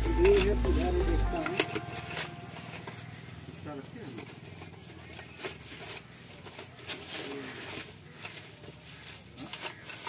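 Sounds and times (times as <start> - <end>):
plastic wrapping crinkling: 1.4 - 10.0.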